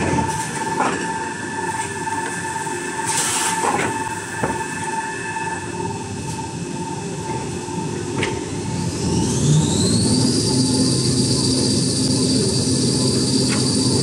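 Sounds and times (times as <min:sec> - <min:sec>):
machine din with whine: 0:00.0 - 0:14.0.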